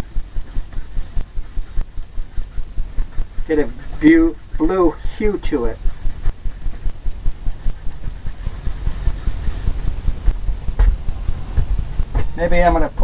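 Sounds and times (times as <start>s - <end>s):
brush tapping: 0.0s - 12.4s.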